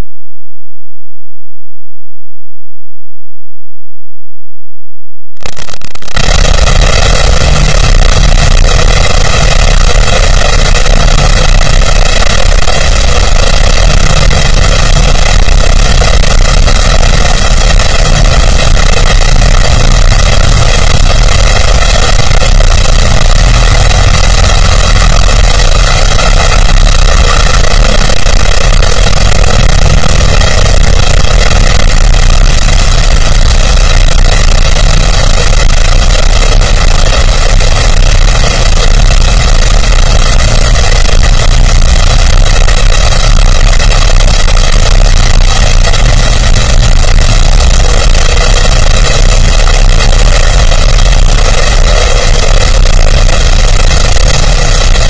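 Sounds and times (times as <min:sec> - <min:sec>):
distorted noise with tones: 0:05.3 - 0:55.0.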